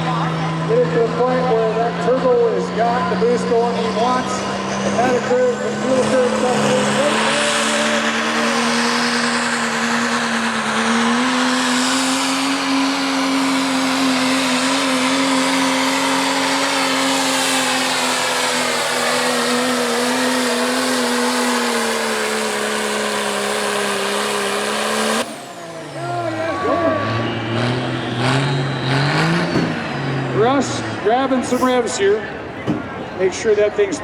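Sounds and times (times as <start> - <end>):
diesel pickup engine at full throttle: 0.0 - 34.0.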